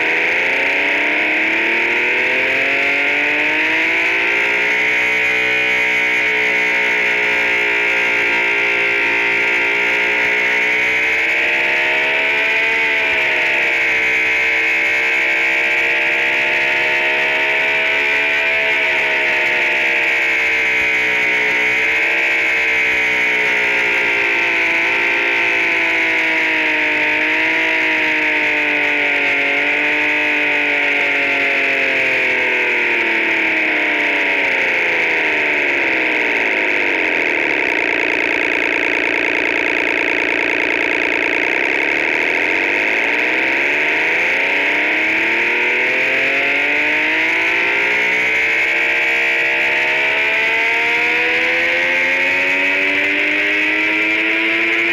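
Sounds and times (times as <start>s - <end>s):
synthesized engine note: 0.0s - 54.9s.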